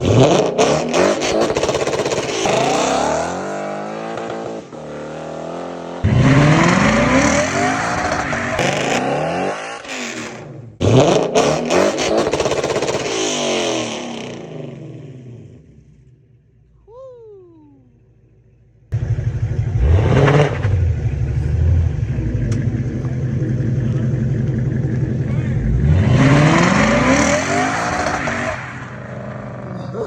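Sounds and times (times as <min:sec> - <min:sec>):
car engine accelerating hard: 0:00.0 - 0:15.8, 0:18.9 - 0:29.9.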